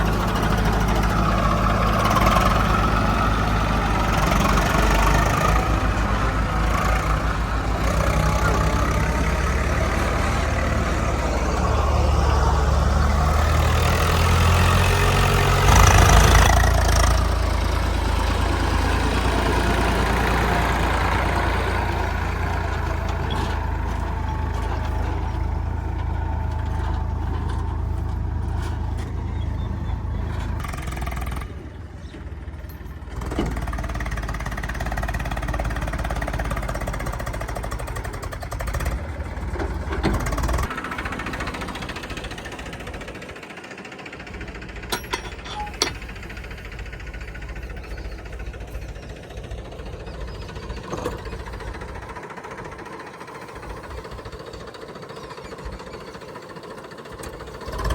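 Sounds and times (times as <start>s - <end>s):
diesel engine knocking clatter: 0.0s - 57.9s.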